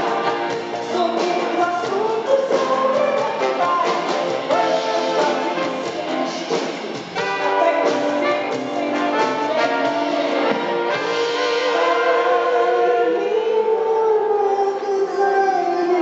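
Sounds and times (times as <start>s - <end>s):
woman singing: 0.0s - 10.7s, 11.4s - 16.0s
live band with horns: 0.0s - 16.0s.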